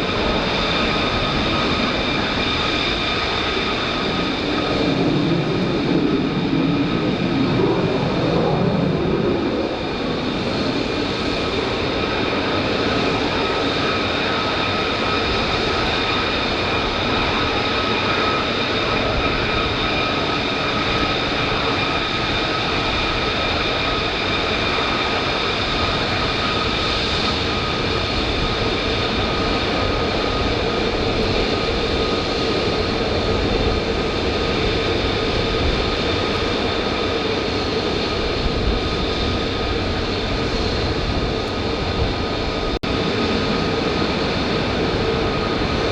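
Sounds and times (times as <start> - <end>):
jet engine whine and rush: 0.0 - 45.9.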